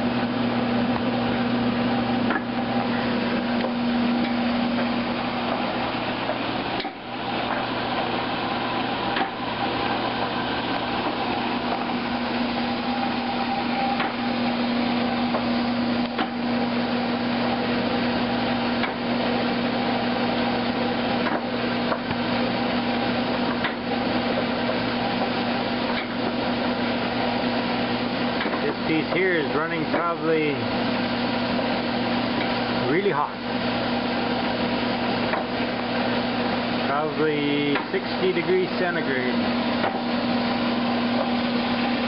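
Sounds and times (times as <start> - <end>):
oil press humming: 0.0 - 42.0.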